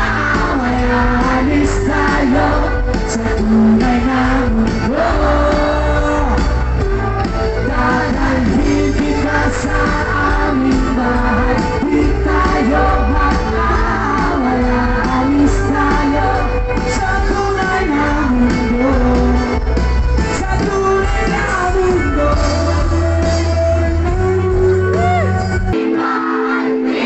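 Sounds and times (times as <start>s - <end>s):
live band with lead singer: 0.0s - 27.0s.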